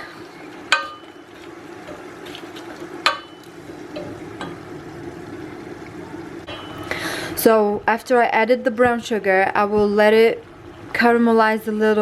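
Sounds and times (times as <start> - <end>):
steady sizzle: 0.0 - 12.0.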